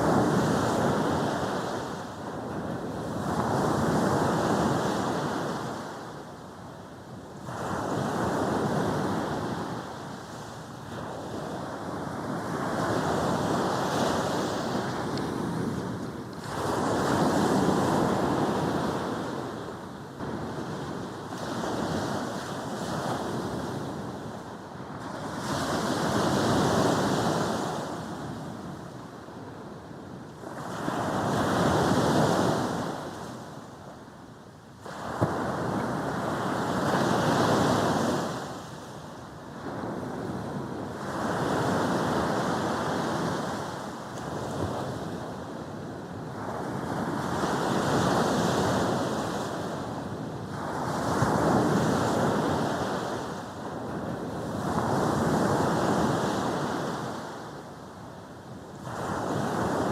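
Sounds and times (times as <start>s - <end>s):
sea waves breaking on a beach: 0.0s - 59.9s.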